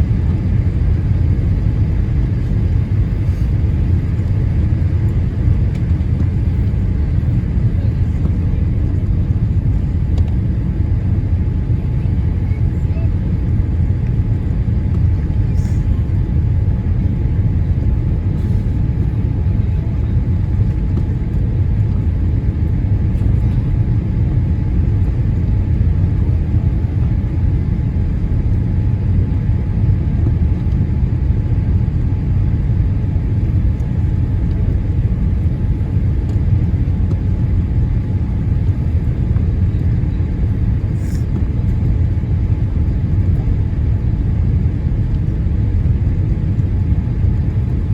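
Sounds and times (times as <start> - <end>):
low rumble of wheels and airframe: 0.0 - 47.9.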